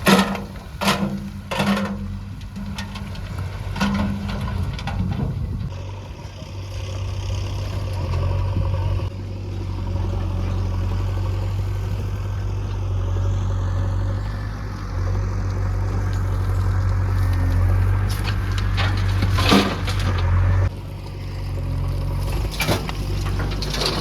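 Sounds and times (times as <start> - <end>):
heavy diesel engine humming: 0.0 - 24.0.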